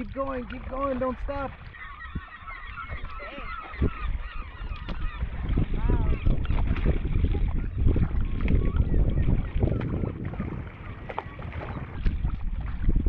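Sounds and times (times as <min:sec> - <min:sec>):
paddle strokes in water: 0:00.0 - 0:13.0
wind buffeting microphone: 0:00.0 - 0:13.0
faint gull calls: 0:00.7 - 0:12.1.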